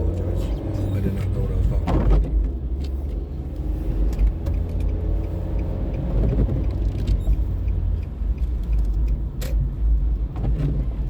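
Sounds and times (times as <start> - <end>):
car engine and tyres rumble: 0.0 - 11.0.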